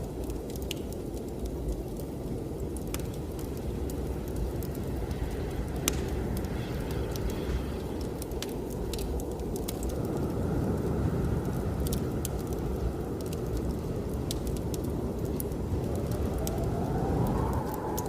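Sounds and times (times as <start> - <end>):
blizzard wind rumbling: 0.0 - 18.0
wood fire crackling: 0.0 - 18.0.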